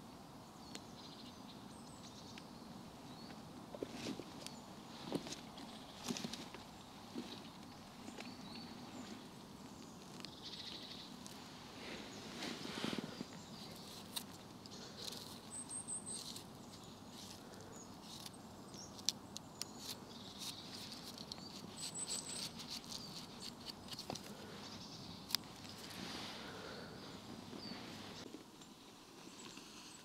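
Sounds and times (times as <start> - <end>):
soft rustling: 3.7 - 18.3, 19.8 - 30.0.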